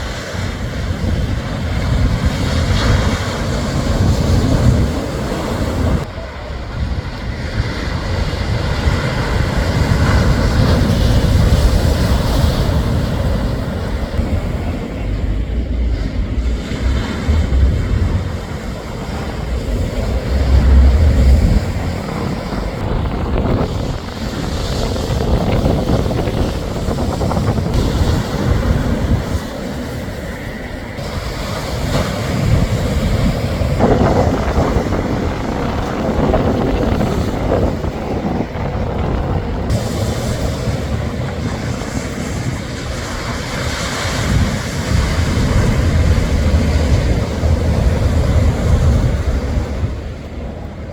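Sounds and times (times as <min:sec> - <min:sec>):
strong wind on microphone: 0:00.0 - 0:50.9
surf breaking: 0:00.0 - 0:50.9.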